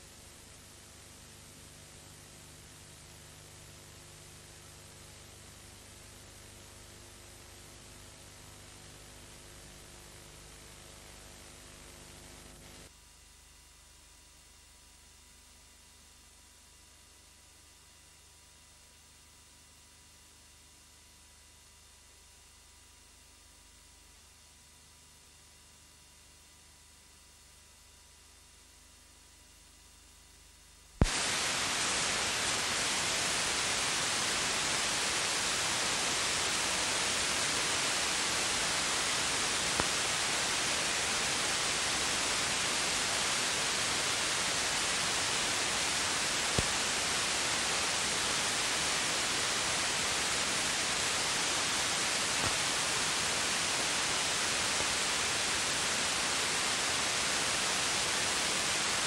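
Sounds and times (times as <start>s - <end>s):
tv static hiss: 0.0s - 59.0s.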